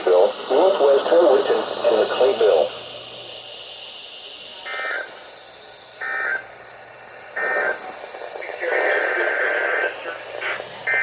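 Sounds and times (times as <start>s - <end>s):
faint radio hiss: 0.0s - 11.0s.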